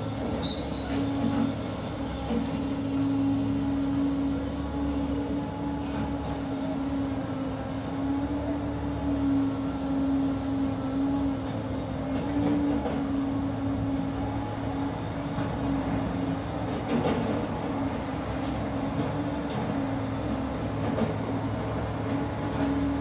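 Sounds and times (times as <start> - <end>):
diesel engines droning: 0.0 - 23.0.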